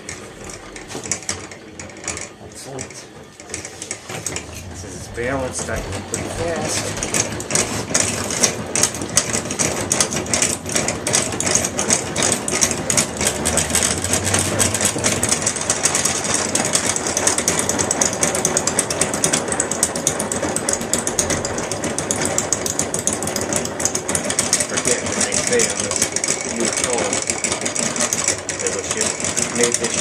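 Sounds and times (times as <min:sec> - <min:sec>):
honey extractor rattling: 0:00.0 - 0:30.0.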